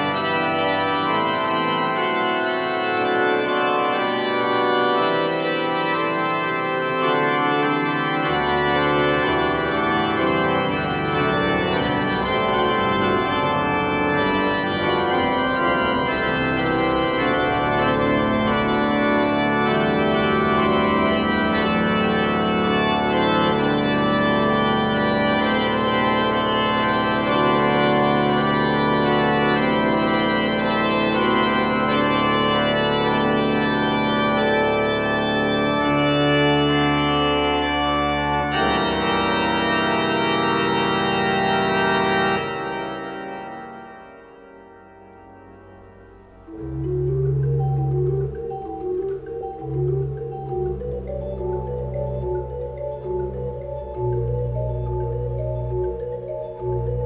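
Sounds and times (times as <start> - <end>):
music of sustained chords: 0.0 - 57.0.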